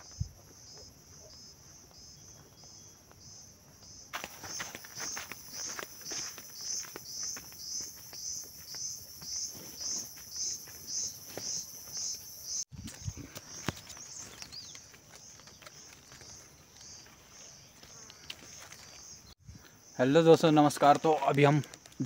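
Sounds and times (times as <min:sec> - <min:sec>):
footsteps on dirt trail: 0:00.0 - 0:19.8
insects trilling: 0:00.0 - 0:22.0.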